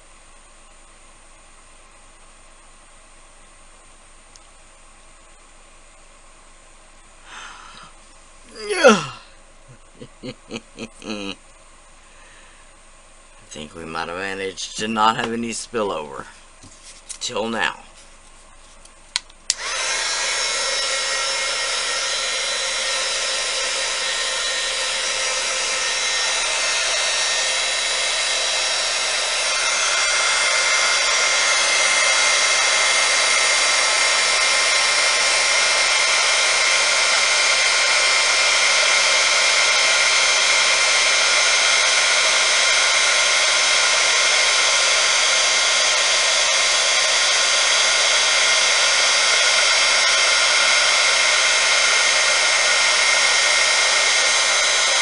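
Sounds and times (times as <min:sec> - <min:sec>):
hot-air blower running: 0:07.2 - 0:11.4, 0:13.4 - 0:17.8, 0:19.4 - 0:55.0.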